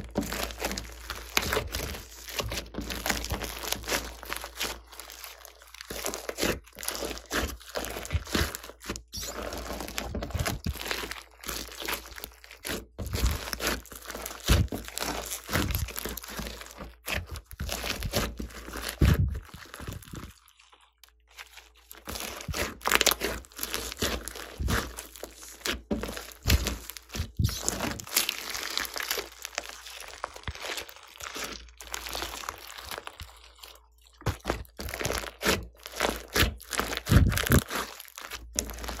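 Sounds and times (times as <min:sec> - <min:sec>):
slime crackling and squishing: 0:00.0 - 0:39.0.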